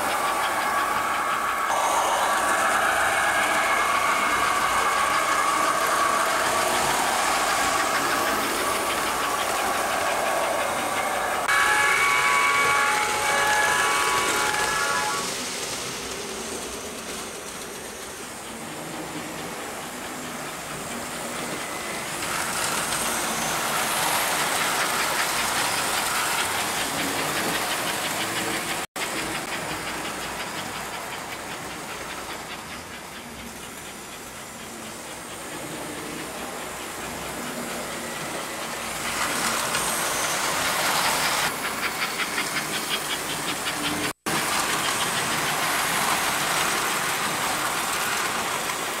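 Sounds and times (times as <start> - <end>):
model trains rattling on track: 0.0 - 49.0.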